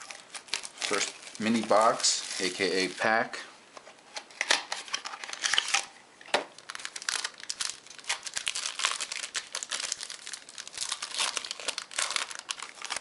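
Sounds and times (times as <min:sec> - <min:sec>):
foil wrapper crinkling: 0:00.0 - 0:03.2, 0:04.4 - 0:05.9, 0:06.5 - 0:13.0.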